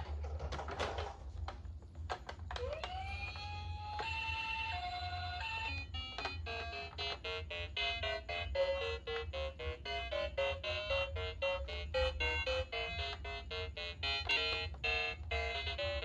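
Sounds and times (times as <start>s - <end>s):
toy electronic siren: 2.6s - 16.0s
music of short repeated notes: 2.9s - 16.0s.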